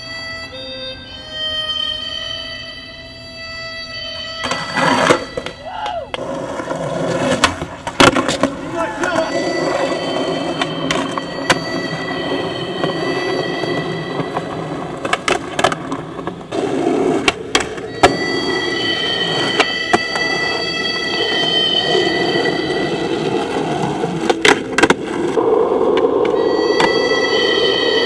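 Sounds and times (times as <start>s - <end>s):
skateboard wheels rolling on concrete: 3.6s - 28.0s
skateboard clacks: 4.4s - 27.8s.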